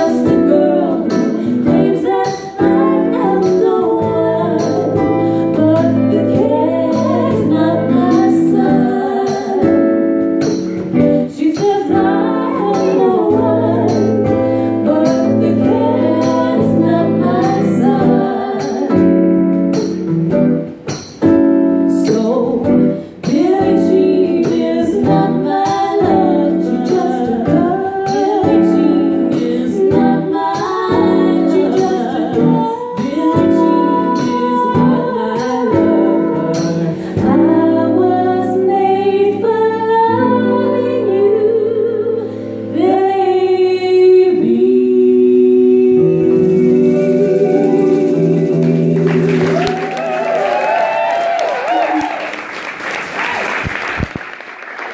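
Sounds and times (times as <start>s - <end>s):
women singing: 0.0s - 19.9s, 21.8s - 52.2s
drums beating: 0.0s - 37.6s, 46.1s - 54.4s
band playing: 0.0s - 40.5s, 45.6s - 50.8s.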